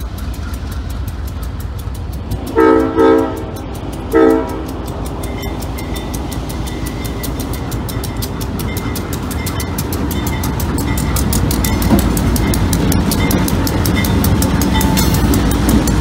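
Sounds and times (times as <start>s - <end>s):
crossing bell clanging: 0.0s - 16.0s
diesel locomotive rumbling: 0.0s - 16.0s.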